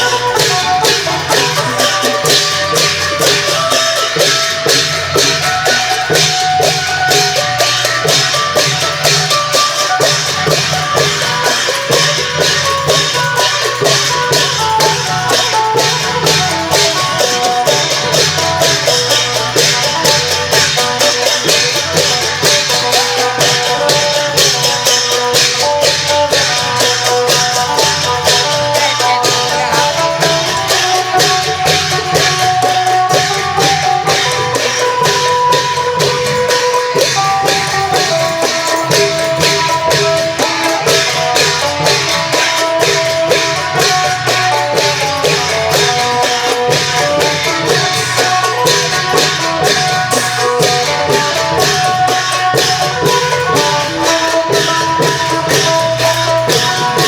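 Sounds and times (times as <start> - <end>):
jangling cymbals: 0.0 - 57.0
long drums beating: 0.0 - 57.0.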